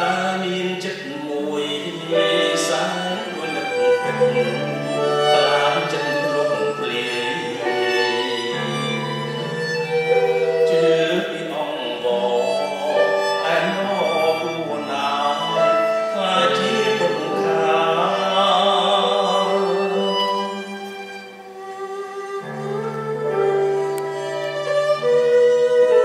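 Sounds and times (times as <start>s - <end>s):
bowed string instrument melody: 0.0s - 26.0s.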